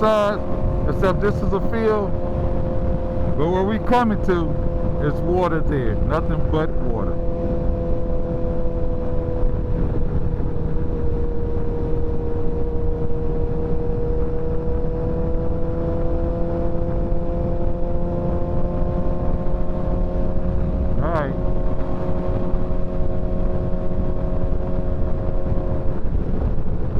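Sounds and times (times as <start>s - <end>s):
motorcycle engine cruising: 0.0s - 26.9s.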